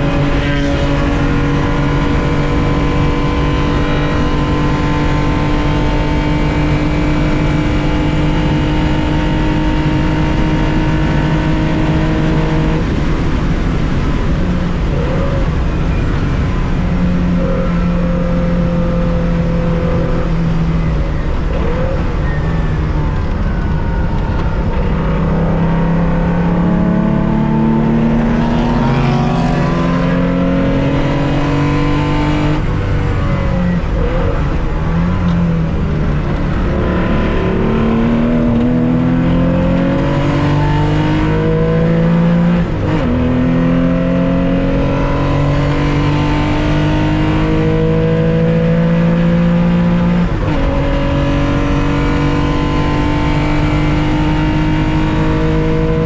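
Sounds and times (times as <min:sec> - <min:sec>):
car engine racing: 0:00.0 - 0:56.0.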